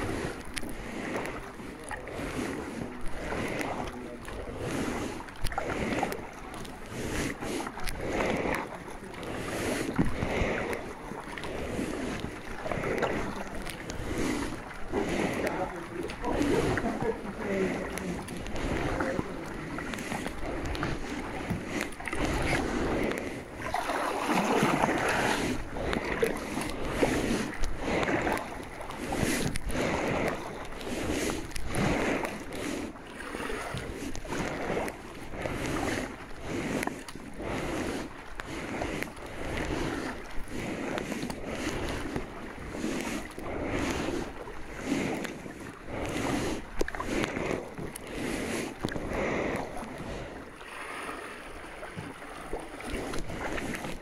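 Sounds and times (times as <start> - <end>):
kayak paddle strokes splashing: 0.0 - 54.0
water swishing along hull: 0.0 - 54.0.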